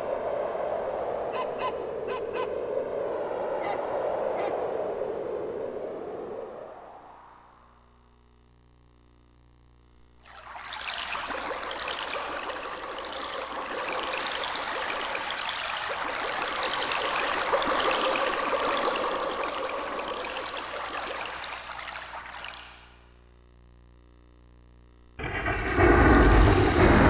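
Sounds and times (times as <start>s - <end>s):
dense steady hiss effect: 0.0s - 3.0s, 4.9s - 27.0s.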